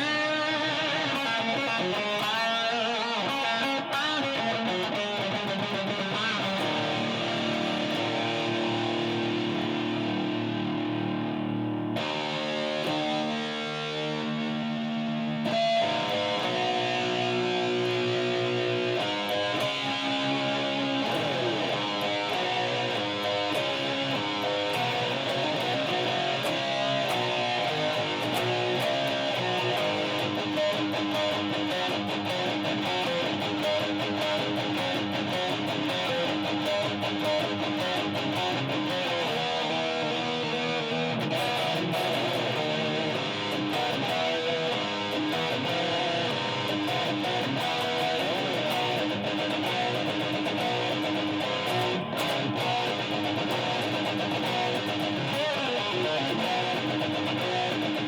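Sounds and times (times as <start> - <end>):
electric guitar playing metal riffs: 0.0 - 58.0.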